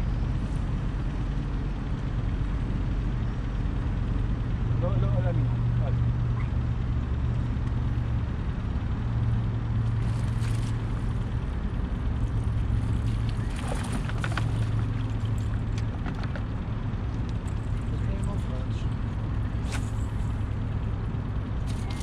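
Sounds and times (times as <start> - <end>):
outboard motor idling: 0.0 - 22.0.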